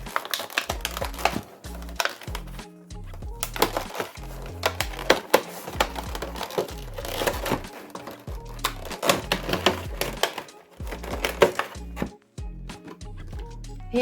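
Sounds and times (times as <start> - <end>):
packaging clicks and crinkles: 0.0 - 2.6, 3.4 - 12.2
background music with bass line: 0.0 - 14.0.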